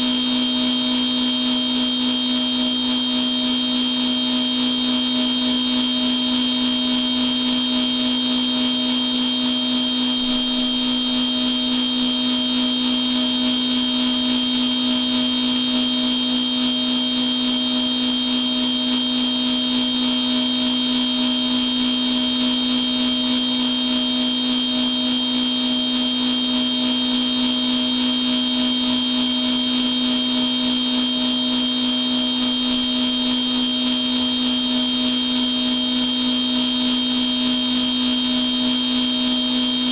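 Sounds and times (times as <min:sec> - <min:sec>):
machine tool humming and whining: 0:00.0 - 0:39.9.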